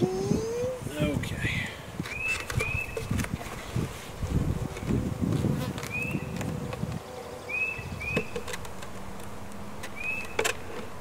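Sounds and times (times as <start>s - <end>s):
honeybees buzzing: 2.1s - 11.0s.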